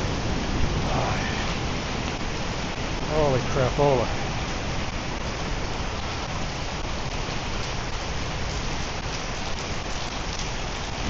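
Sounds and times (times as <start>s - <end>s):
heavy rain on the ground: 0.0s - 11.0s.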